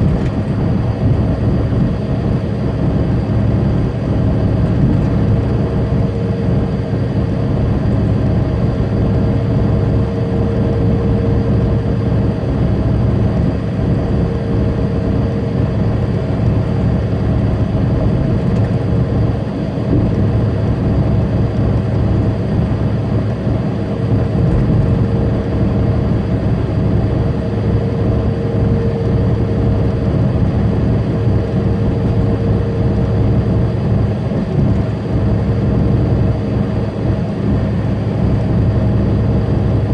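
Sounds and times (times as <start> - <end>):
constant hum: 0.0 - 39.9
diesel engine drone: 0.0 - 39.9.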